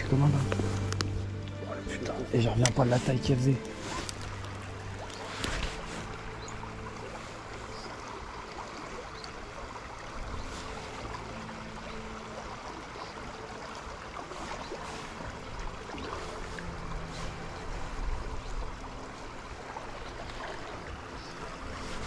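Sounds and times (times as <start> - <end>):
stream flowing over riffle: 0.0 - 22.0.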